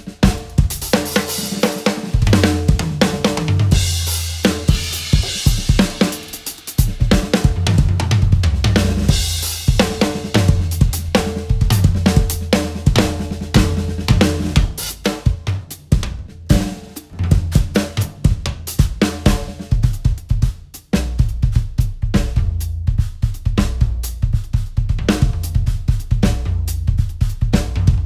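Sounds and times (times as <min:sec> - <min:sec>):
drum kit solo: 0:00.0 - 0:28.0.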